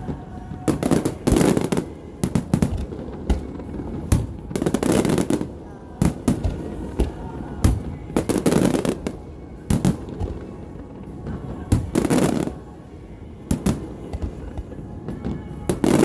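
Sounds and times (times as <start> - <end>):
fireworks bangs: 0.0 - 12.7, 13.5 - 16.0
fireworks rumble: 0.0 - 16.0.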